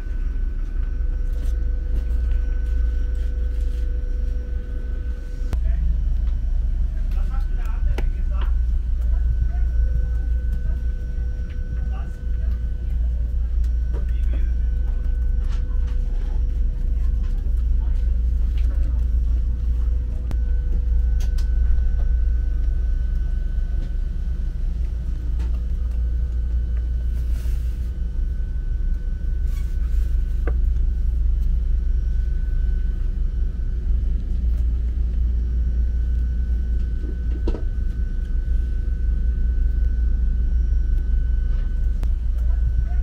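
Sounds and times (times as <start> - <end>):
faint steady whine: 0.0 - 43.0
train running low rumble: 0.0 - 43.0.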